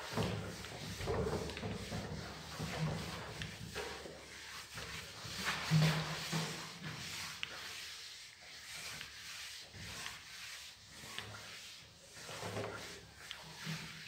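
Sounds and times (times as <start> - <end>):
eraser wiping whiteboard: 0.0 - 14.0.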